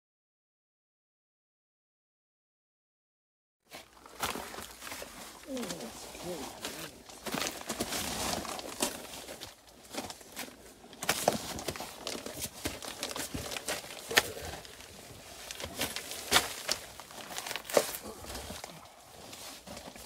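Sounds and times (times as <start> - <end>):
plastic sheeting crinkling: 3.7 - 20.0.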